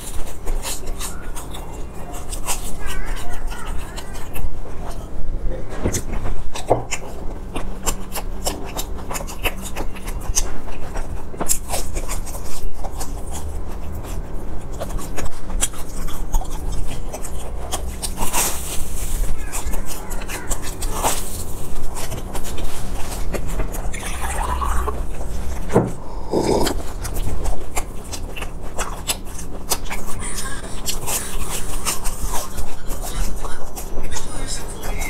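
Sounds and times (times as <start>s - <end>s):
chewing crispy food: 0.0s - 35.0s.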